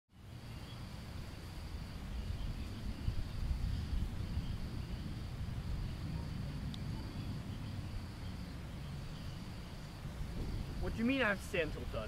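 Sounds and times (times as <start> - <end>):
wind rumble on microphone: 0.2 - 12.0.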